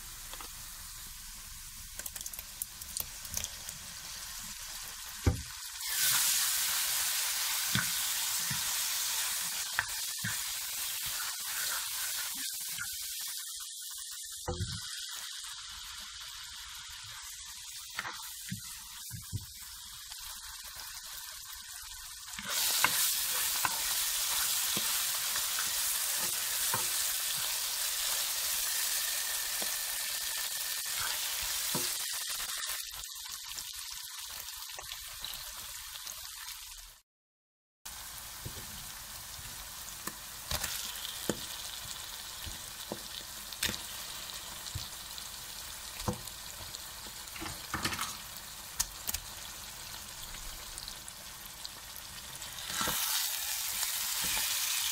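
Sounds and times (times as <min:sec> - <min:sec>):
masala frying in oil: 0:00.0 - 0:37.0, 0:37.9 - 0:54.9.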